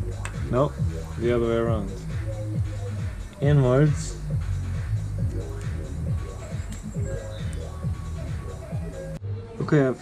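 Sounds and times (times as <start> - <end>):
electronic music with falling bass: 0.0 - 9.2.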